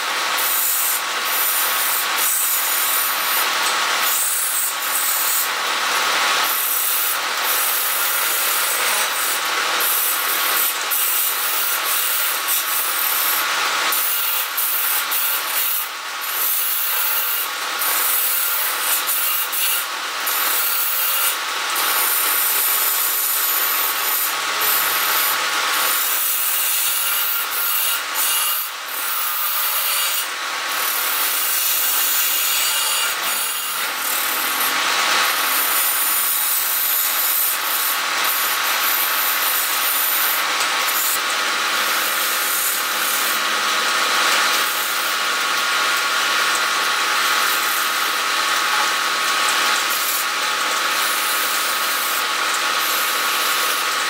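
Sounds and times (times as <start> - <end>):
chisel cutting wood on lathe: 0.0 - 46.7, 47.3 - 54.0.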